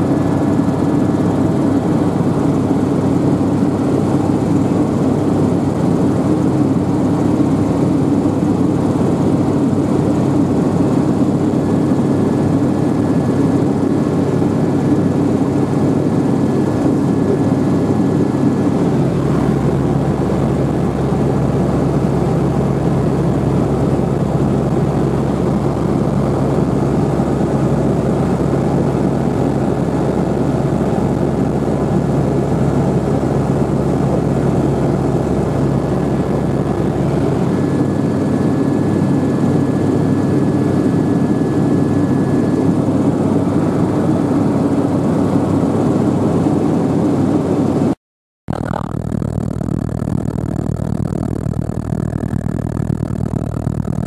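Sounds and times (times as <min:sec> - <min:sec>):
helicopter engine and rotors: 0:00.0 - 0:48.0, 0:48.6 - 0:54.0.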